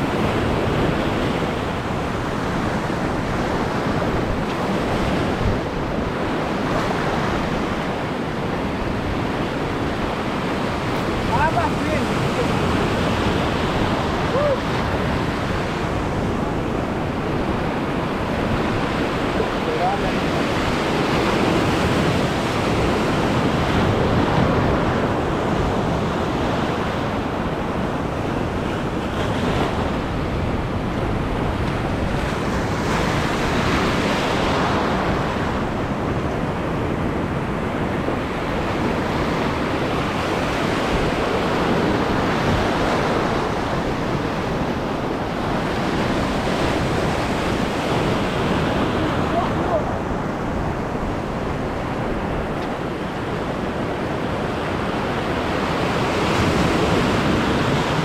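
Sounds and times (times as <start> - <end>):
surf washing over reef: 0.0 - 58.0
wind buffeting microphone: 0.0 - 58.0.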